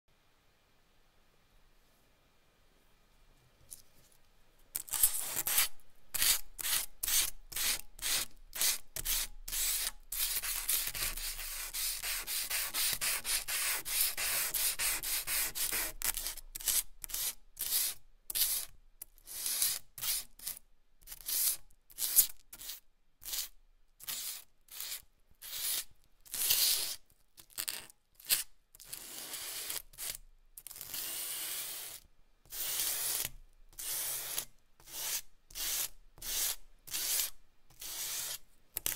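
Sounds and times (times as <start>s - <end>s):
charcoal scratching on paper: 4.8s - 38.9s.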